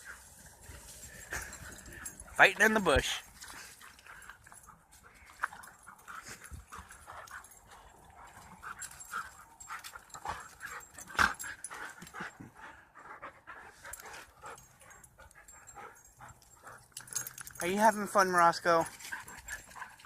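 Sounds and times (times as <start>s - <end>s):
dog panting: 0.0s - 18.2s, 18.8s - 20.0s.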